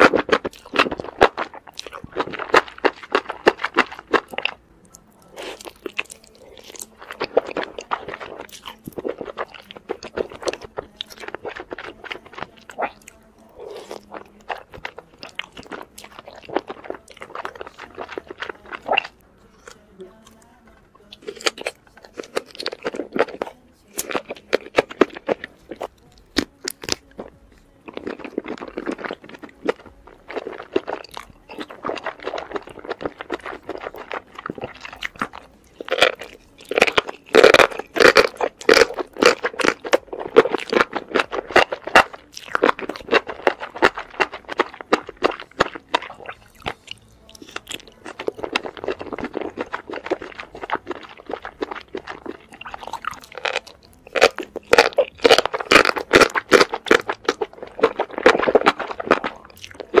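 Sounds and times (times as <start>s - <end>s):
crunchy chewing: 0.0s - 60.0s.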